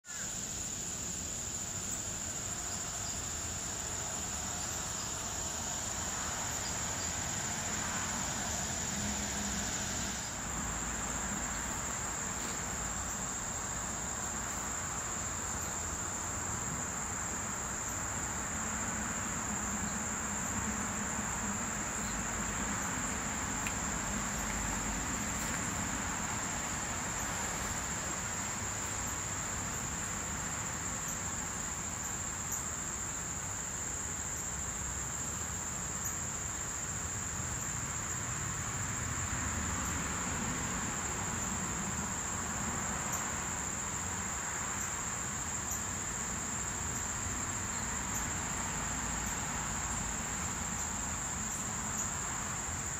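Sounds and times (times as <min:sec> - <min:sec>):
faint background hiss: 0:00.0 - 0:52.9
insects trilling: 0:00.0 - 0:52.9.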